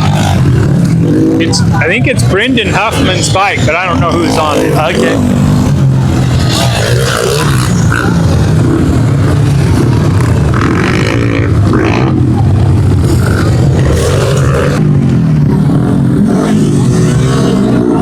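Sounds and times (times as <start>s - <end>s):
motorbike engines revving: 0.0s - 18.0s.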